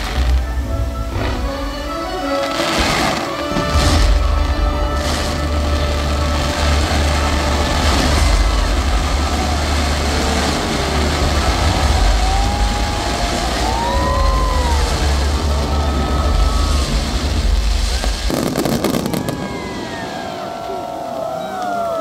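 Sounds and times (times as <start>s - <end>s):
fireworks bursting rumble: 0.0s - 22.0s
fireworks whistling: 0.0s - 22.0s.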